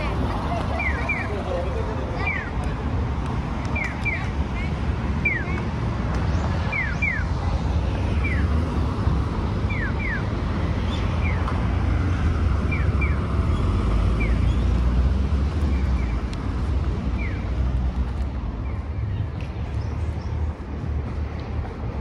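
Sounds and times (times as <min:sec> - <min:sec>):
low rumble of traffic: 0:00.0 - 0:22.0.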